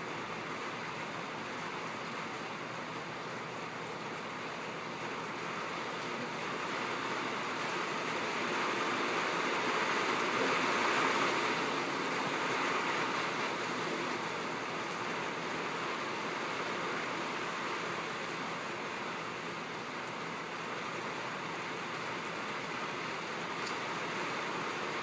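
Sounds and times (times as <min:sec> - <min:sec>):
rain on a tin roof: 0:00.0 - 0:25.0.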